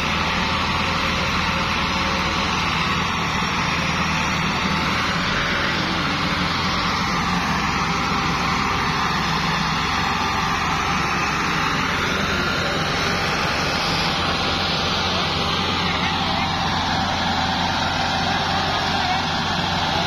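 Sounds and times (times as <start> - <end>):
tractor diesel engines droning: 0.0 - 20.0.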